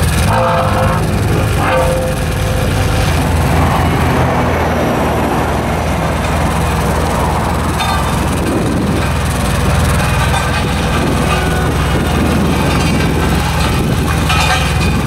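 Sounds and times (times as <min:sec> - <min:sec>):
asphalt roller engine rumbling: 0:00.0 - 0:15.0.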